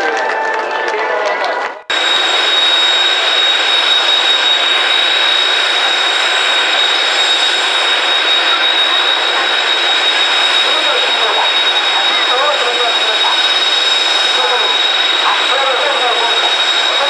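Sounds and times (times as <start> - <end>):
jet engines whining: 0.9 - 17.0.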